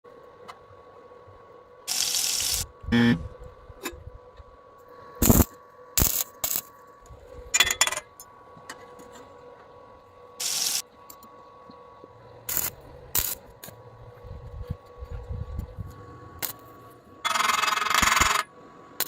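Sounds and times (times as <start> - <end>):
faint steady hum: 0.1 - 19.0.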